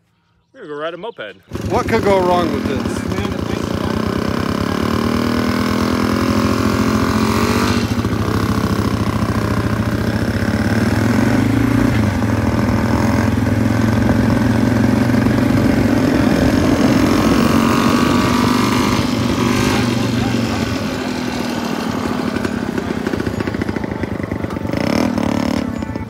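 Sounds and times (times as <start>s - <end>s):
motorcycle engines running: 1.4s - 26.0s.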